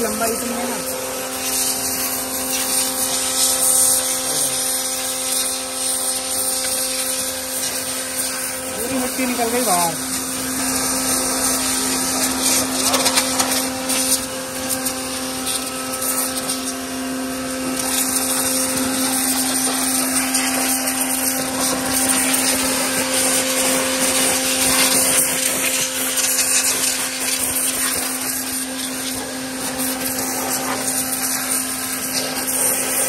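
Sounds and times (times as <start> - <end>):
pressure washer humming: 0.0 - 33.0
water jet hissing: 0.0 - 33.0.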